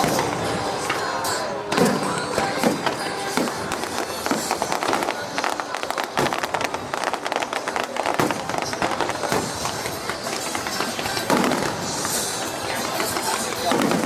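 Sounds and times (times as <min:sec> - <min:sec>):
fireworks crackling: 0:00.0 - 0:14.0
heavy firework bangs: 0:00.0 - 0:14.0.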